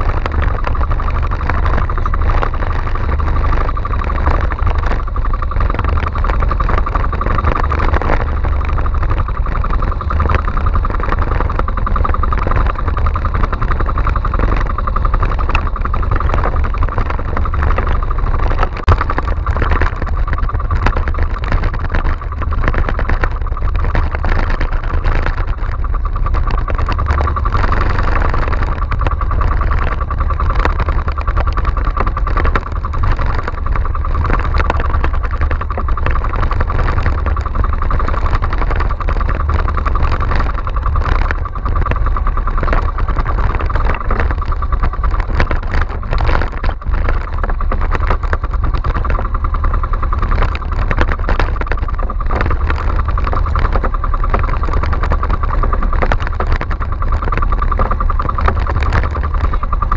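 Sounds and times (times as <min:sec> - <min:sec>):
boat engine running: 0:00.0 - 0:59.9
wind rumble on microphone: 0:00.0 - 0:59.9.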